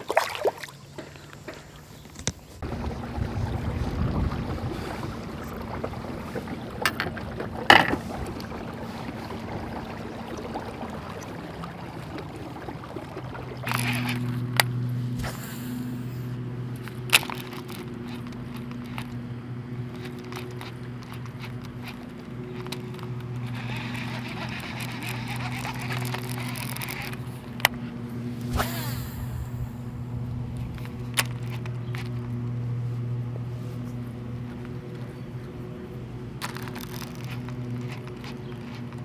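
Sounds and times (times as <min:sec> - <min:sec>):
low steady hum: 0:00.0 - 0:39.0
water sloshing around kayak: 0:00.0 - 0:39.0.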